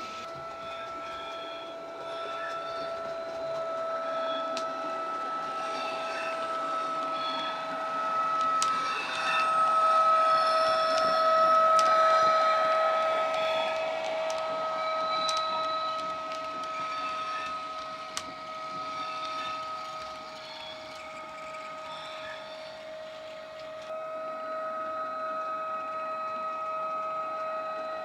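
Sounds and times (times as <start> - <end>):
model train electric whine: 0.0 - 28.0.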